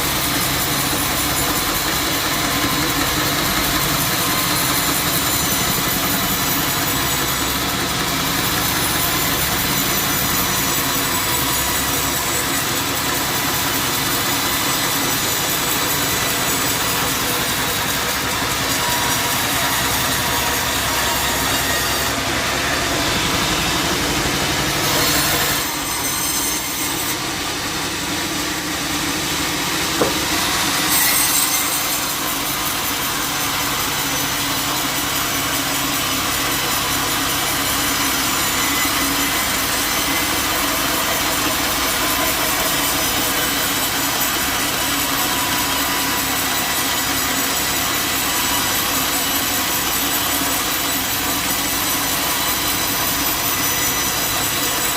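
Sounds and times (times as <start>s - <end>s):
bandsaw blade rasping through wood: 0.0s - 54.9s.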